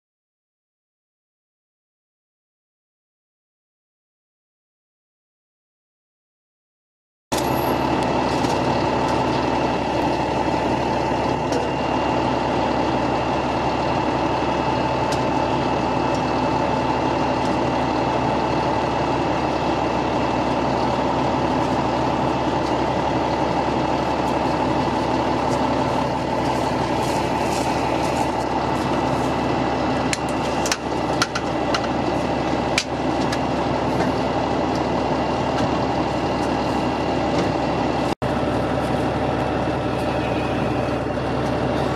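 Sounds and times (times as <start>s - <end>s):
fire engine motor running: 7.3s - 41.9s
steady whine: 7.4s - 41.9s.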